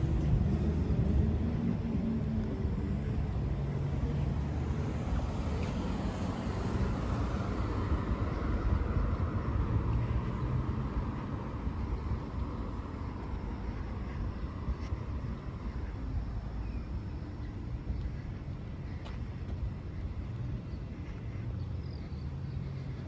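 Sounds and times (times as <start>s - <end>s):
vehicle engines humming: 0.0s - 23.0s.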